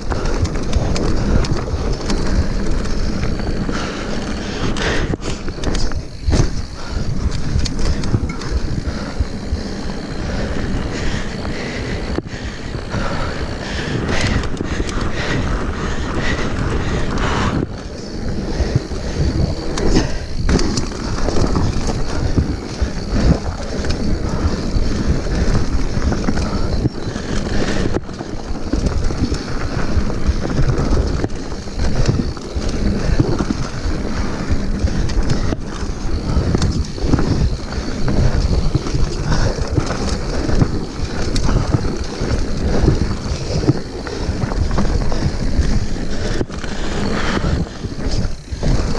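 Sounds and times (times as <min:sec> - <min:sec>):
bike rattling: 0:00.0 - 0:48.9
tyres crunching over loose stones: 0:00.0 - 0:48.9
wind buffeting microphone: 0:00.0 - 0:48.9.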